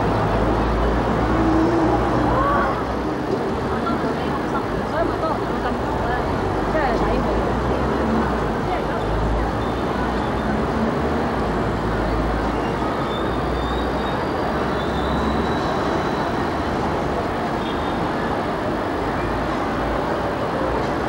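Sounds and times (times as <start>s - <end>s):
tram rumble and hiss: 0.0s - 21.0s.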